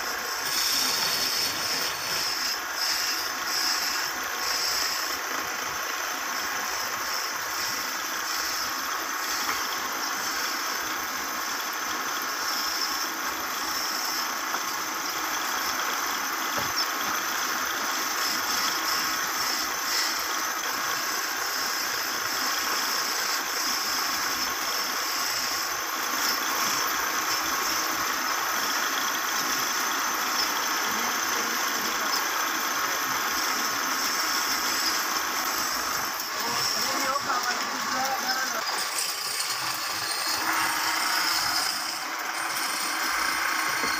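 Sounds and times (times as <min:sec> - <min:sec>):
wood lathe rattling hum: 0:00.0 - 0:43.9.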